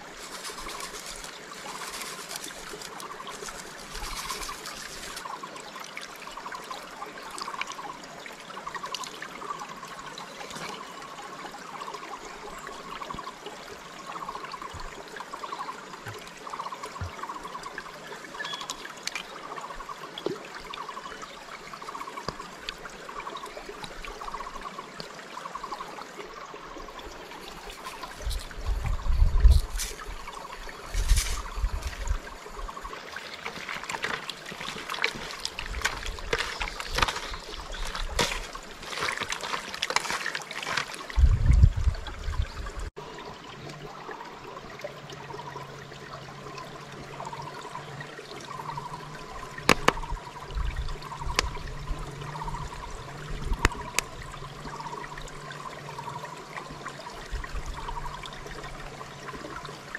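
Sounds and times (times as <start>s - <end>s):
river water trickling and splashing: 0.0s - 59.9s.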